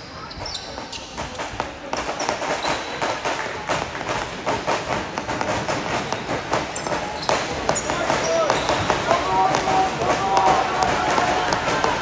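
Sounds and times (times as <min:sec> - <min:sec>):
court background noise: 0:00.0 - 0:12.0
basketball bouncing: 0:01.1 - 0:12.0.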